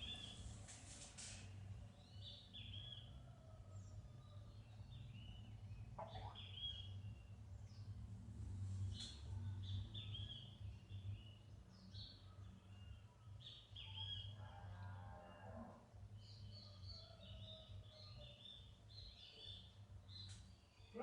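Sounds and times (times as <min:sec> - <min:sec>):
small birds chirping faintly: 0:00.0 - 0:21.0.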